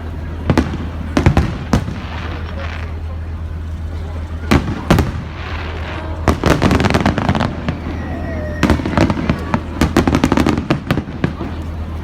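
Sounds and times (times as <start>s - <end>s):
fireworks crackling pops: 0.4s - 8.0s, 8.6s - 12.0s.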